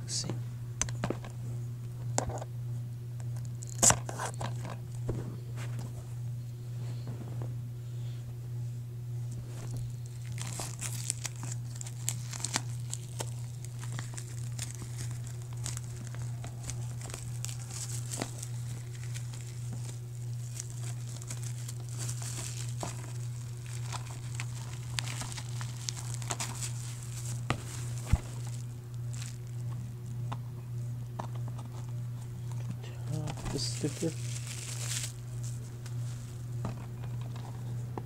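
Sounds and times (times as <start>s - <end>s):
low hum: 0.0s - 38.0s
shrink wrap crinkling: 3.4s - 5.9s, 9.3s - 37.8s.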